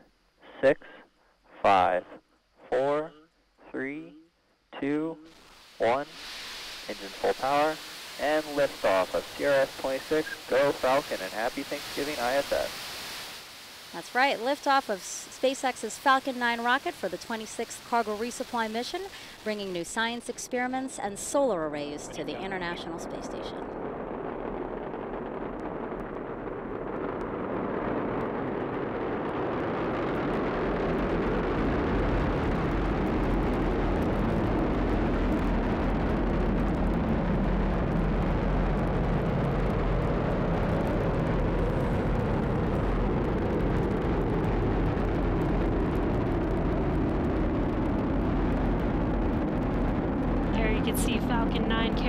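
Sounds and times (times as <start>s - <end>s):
rocket engines roaring: 5.8s - 52.0s.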